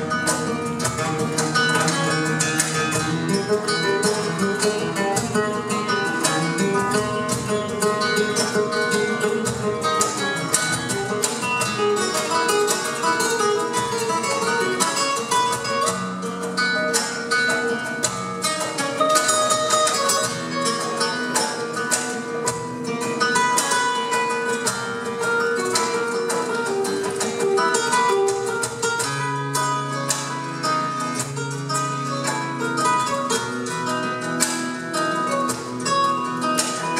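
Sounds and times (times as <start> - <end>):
classical guitar: 0.0 - 36.9
flamenco guitar: 0.0 - 36.9.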